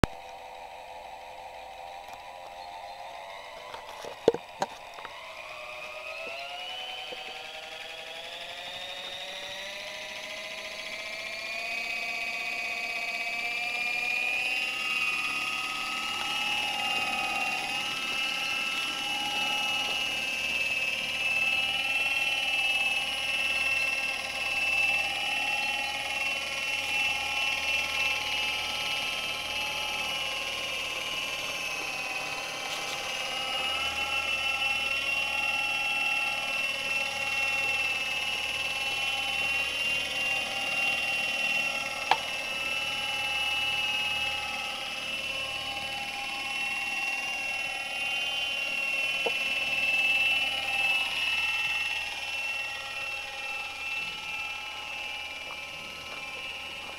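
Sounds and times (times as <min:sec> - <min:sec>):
model helicopter rotors whining: 0:00.0 - 0:56.9.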